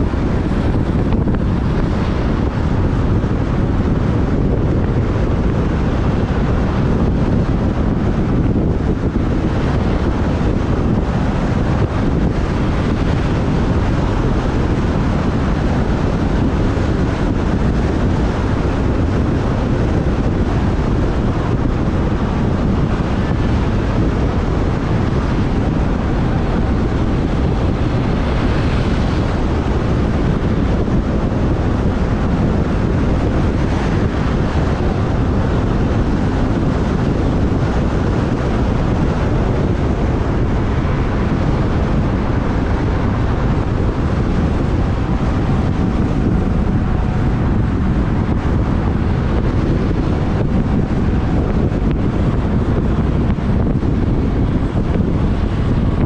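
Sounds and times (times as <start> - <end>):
surrounding traffic: 0.0 - 56.0
wind rushing over microphone: 0.0 - 56.0.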